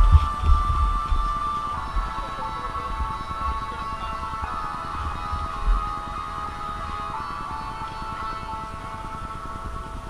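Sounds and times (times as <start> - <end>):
guitar-like tones over low beat: 0.0 - 10.0.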